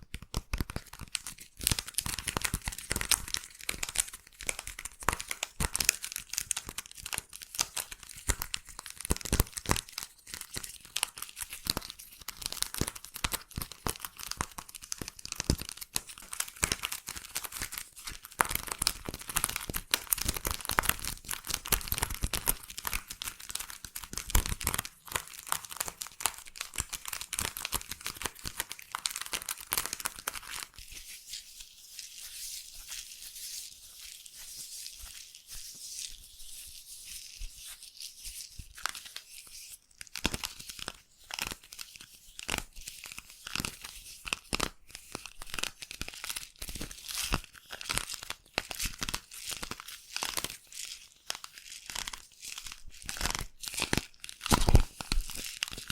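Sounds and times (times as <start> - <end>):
sticky slime crackling: 0.0 - 31.2, 40.0 - 55.9.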